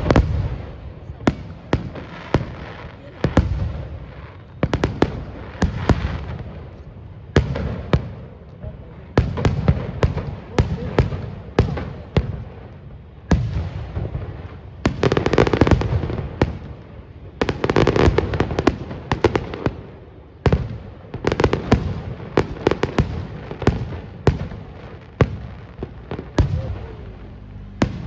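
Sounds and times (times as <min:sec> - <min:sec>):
firework crackling: 0:00.0 - 0:28.0.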